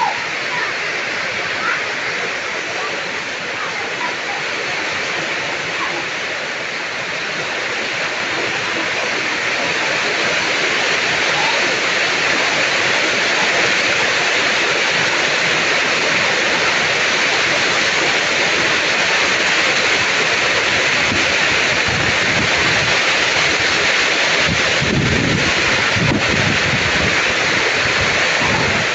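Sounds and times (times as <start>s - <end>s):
heavy rain hissing: 0.0s - 28.9s.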